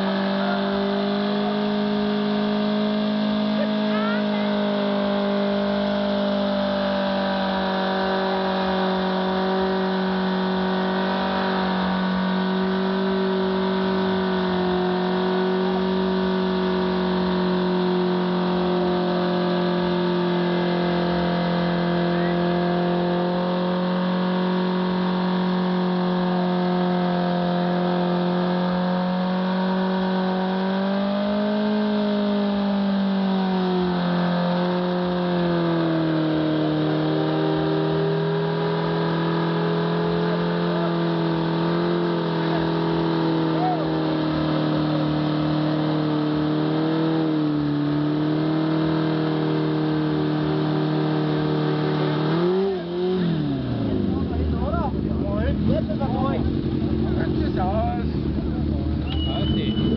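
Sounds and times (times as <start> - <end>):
motorcycle engine revving high: 0.0 - 59.9.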